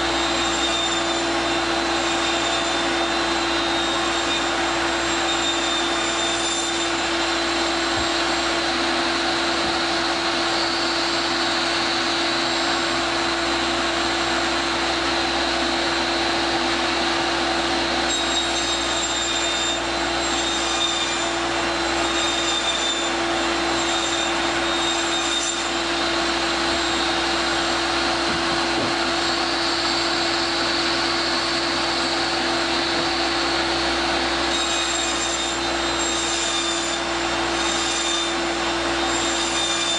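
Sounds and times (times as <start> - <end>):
electric motor humming: 0.0 - 39.9.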